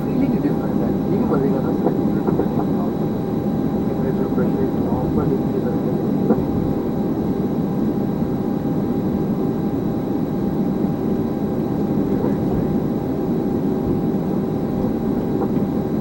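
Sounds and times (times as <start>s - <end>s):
aircraft taxiing rush: 0.0s - 16.0s.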